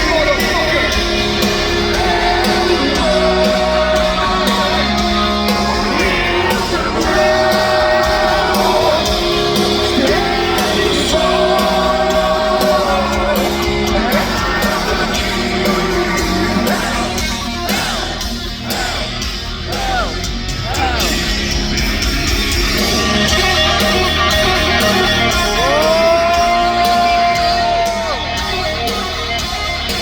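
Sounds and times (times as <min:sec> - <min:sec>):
crowd shouting and singing: 0:00.0 - 0:30.0
heavy metal band playing: 0:00.0 - 0:30.0.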